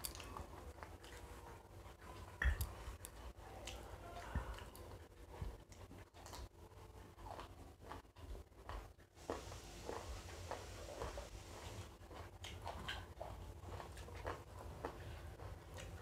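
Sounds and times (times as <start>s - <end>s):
chewing and biting: 0.0s - 16.0s.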